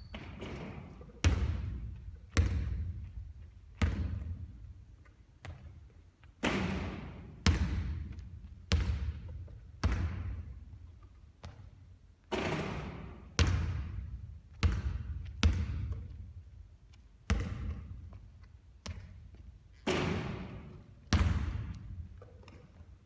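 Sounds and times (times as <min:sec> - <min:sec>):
basketball bouncing on court: 0:00.0 - 0:04.8, 0:05.4 - 0:22.8.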